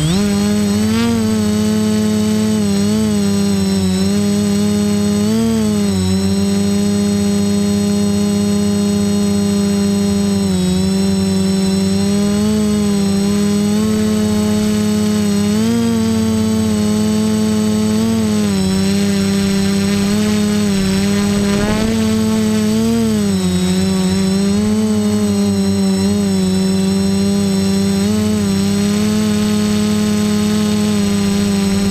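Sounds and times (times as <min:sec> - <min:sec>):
drone propellers buzzing: 0:00.0 - 0:31.9.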